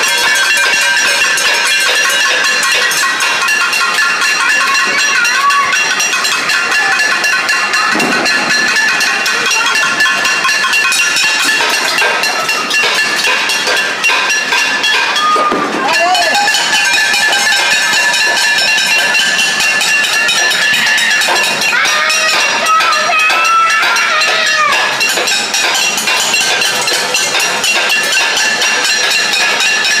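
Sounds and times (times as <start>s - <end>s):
pots beaten with spoons: 0.0s - 30.0s.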